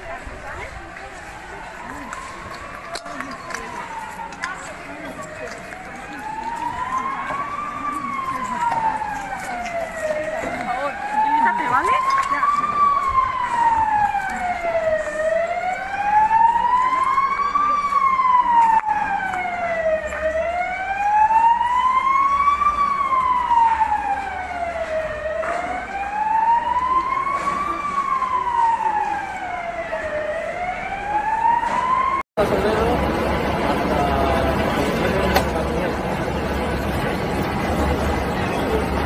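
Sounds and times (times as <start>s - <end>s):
siren wailing: 1.0s - 39.0s.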